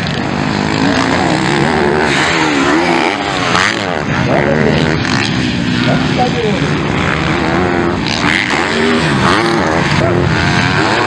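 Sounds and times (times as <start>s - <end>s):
motocross engines revving: 0.0s - 11.0s.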